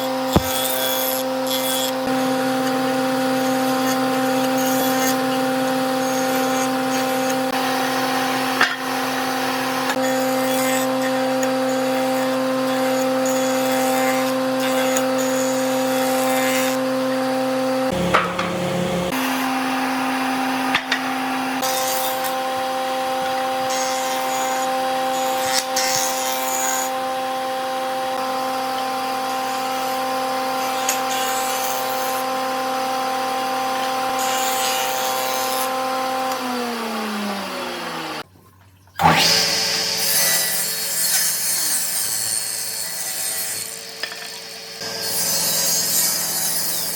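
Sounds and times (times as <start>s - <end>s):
electric power tool cutting wood: 0.0s - 38.3s, 39.0s - 46.9s.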